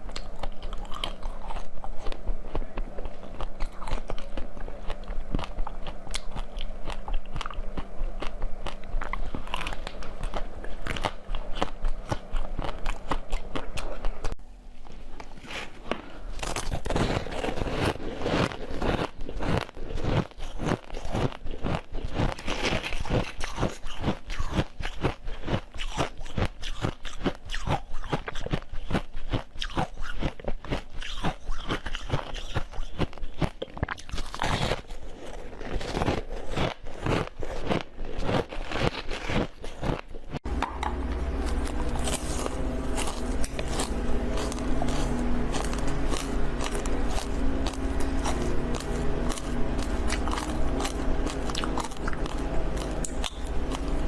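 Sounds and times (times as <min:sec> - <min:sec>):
crunching and chewing frozen treats: 0:00.0 - 0:54.0
steady low hum: 0:00.0 - 0:54.0.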